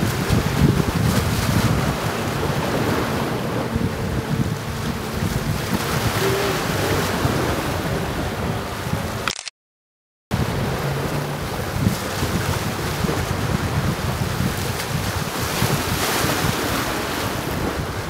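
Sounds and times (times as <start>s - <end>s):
wind buffeting microphone: 0.0s - 9.2s, 10.3s - 18.0s
sea waves: 0.0s - 9.3s, 10.3s - 18.0s.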